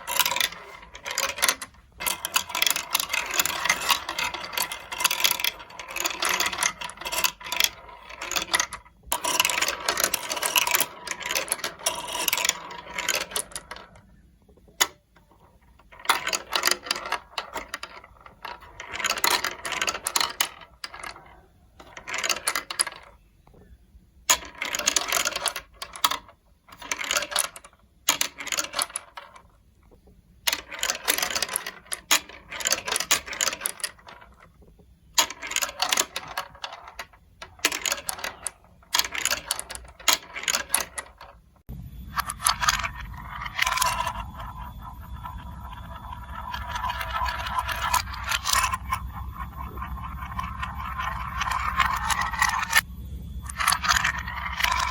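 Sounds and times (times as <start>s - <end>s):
marbles rolling and clattering: 0.0s - 54.9s.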